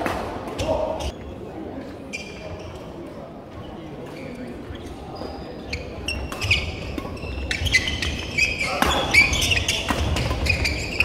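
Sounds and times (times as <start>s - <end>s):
sneakers squeaking: 0.5s - 11.0s.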